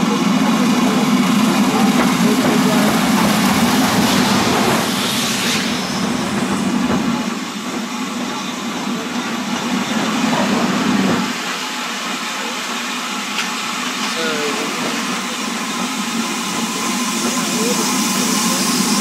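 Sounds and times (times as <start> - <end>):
train wheels rumbling on rails: 0.0 - 19.0
steam hissing: 0.4 - 19.0.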